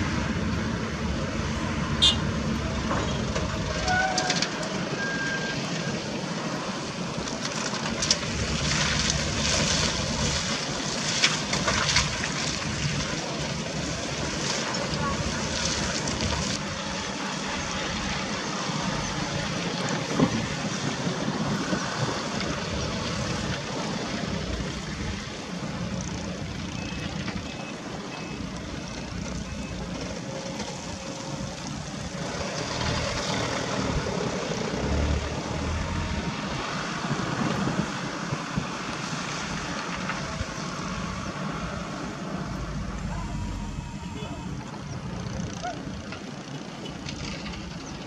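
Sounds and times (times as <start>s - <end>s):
diesel truck engine: 0.0s - 48.0s
tyre and rough-road noise: 0.0s - 48.0s.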